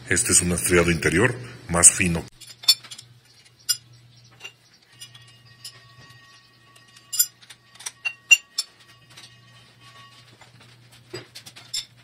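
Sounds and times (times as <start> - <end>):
steady low hum: 0.0 - 12.0
steel parts clinking: 2.3 - 12.0.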